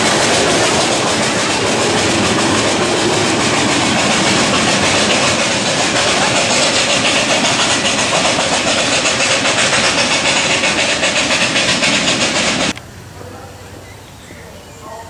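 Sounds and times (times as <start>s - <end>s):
miniature train rolling on track: 0.0s - 12.8s.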